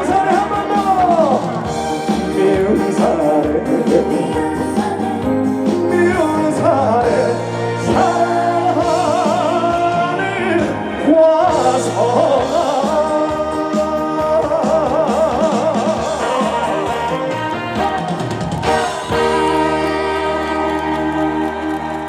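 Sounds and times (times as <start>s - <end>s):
trot band music with singing: 0.0s - 22.0s.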